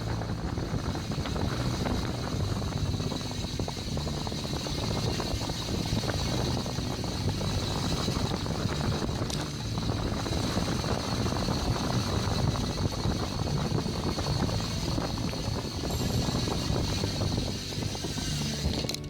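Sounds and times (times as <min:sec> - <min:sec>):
bicycle tyre and drivetrain noise: 0:00.0 - 0:19.0
wind rumbling on microphone: 0:00.0 - 0:19.0.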